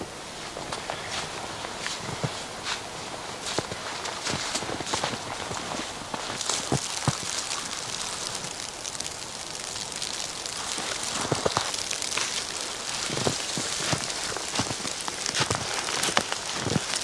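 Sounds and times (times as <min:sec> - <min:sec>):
wind-driven snow hissing: 0:00.0 - 0:17.0.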